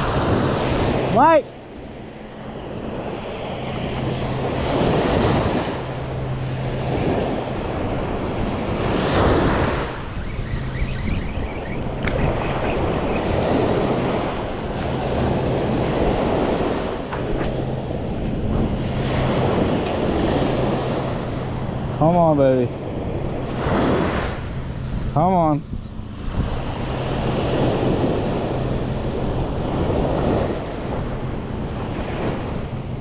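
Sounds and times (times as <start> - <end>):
small waves breaking on beach: 0.0 - 33.0
wind buffeting microphone: 0.0 - 33.0.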